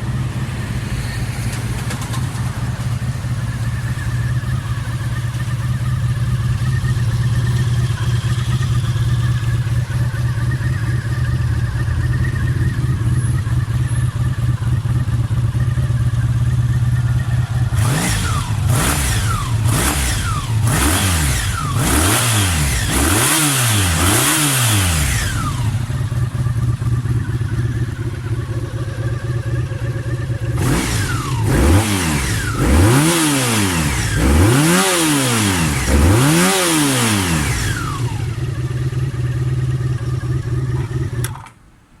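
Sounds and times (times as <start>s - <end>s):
motorcycle engine idling and revving: 0.0s - 41.8s.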